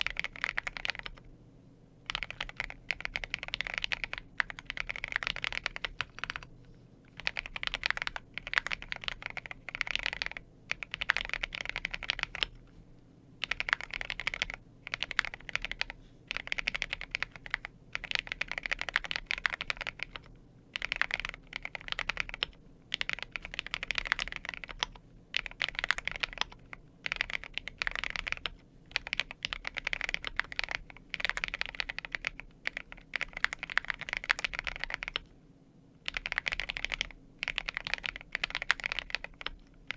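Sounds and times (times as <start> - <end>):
mechanical keyboard typing: 0.0 - 1.3, 2.1 - 6.5, 7.2 - 12.6, 13.4 - 35.3, 36.0 - 39.9.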